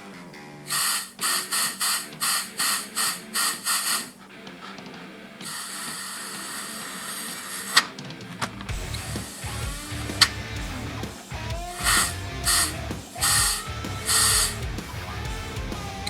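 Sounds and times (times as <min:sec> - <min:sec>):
rotary grinding tool whining: 0:00.7 - 0:16.0.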